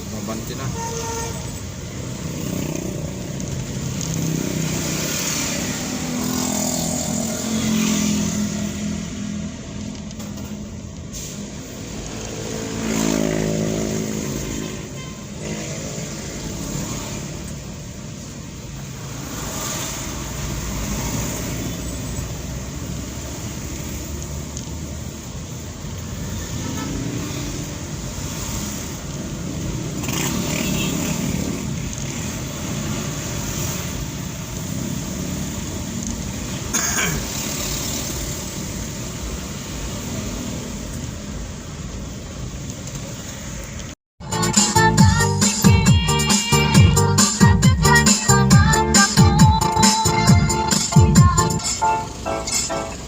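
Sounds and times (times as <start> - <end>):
road traffic noise: 0.0 - 53.0
vehicles speeding up: 1.7 - 10.2, 11.2 - 53.0.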